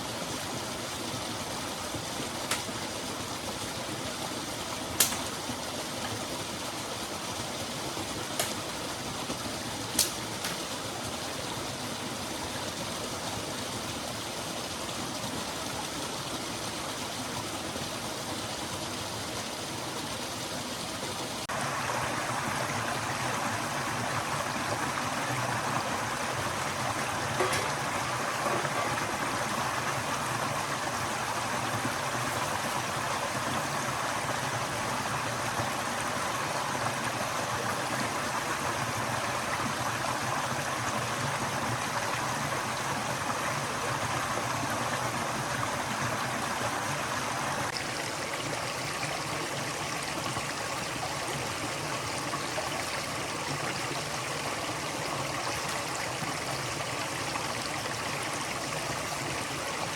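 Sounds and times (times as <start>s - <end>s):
forest stream flowing: 0.0s - 59.9s.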